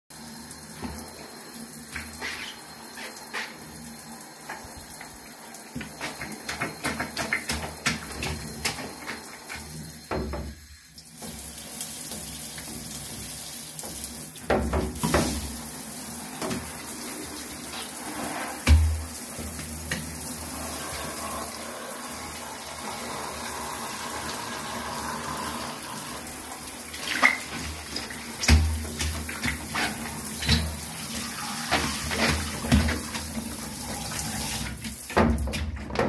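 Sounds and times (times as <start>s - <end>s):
shower spraying water: 0.1s - 35.5s.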